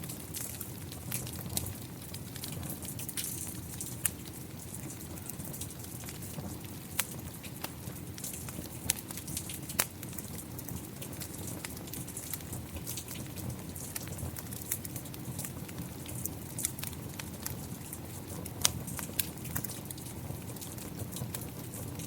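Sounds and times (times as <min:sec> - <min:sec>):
fire popping: 0:00.0 - 0:22.0
steady rain: 0:00.0 - 0:22.0
wood fire crackling: 0:00.0 - 0:22.0.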